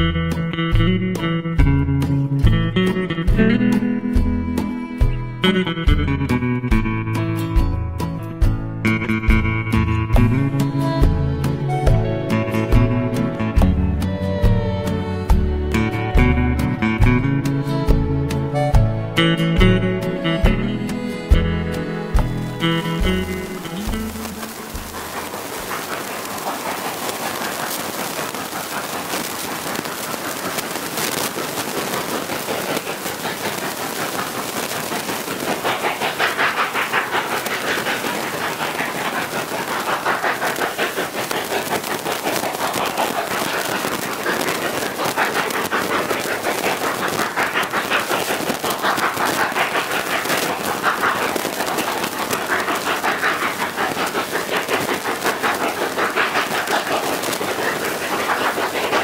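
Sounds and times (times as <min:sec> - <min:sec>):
steam locomotives chuffing: 0:00.0 - 0:59.0.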